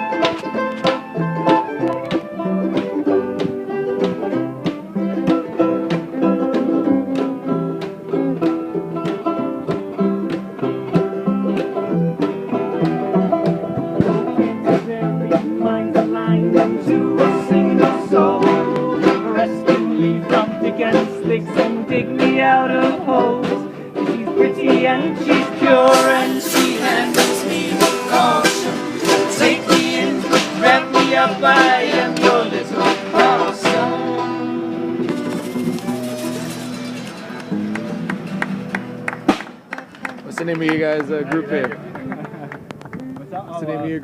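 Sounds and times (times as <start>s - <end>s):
guitar: 0.0s - 44.0s
rapid banjo picking: 0.0s - 44.0s.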